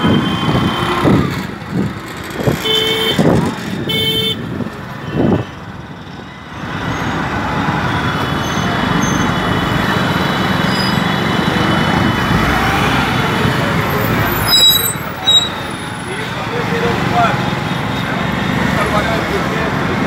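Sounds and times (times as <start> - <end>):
road traffic engines and tyres: 0.0 - 20.0.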